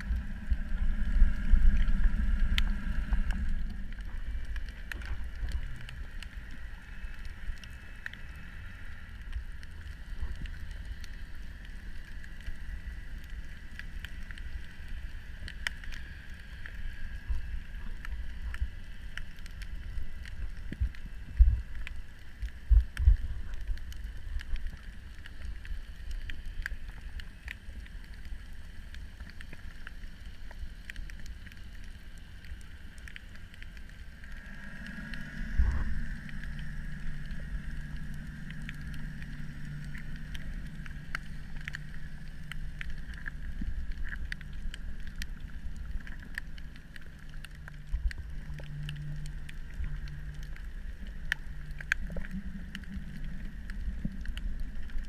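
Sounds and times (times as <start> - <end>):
faint clicks: 0.0 - 55.0
low drone of motor: 0.0 - 55.0
underwater low rumble: 0.0 - 55.0.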